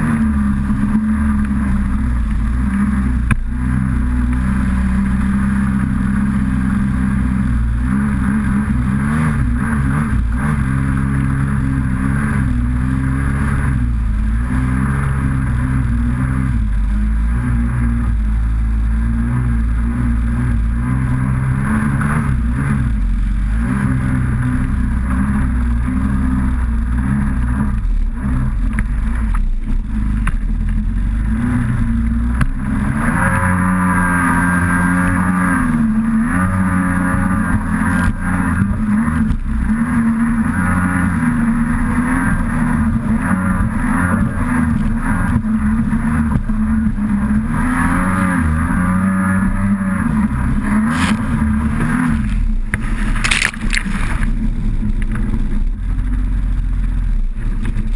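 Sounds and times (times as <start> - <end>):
jet ski engine revving: 0.0 - 57.9.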